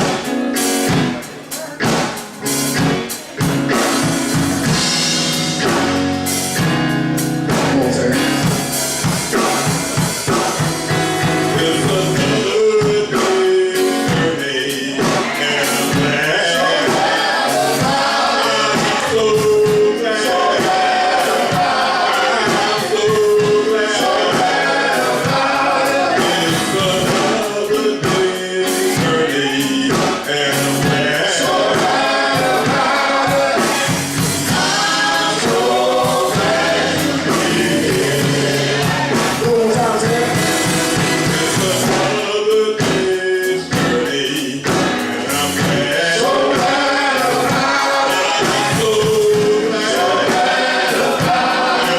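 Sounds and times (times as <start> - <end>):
gospel choir singing: 0.0 - 51.9
lead voice singing: 0.0 - 51.9.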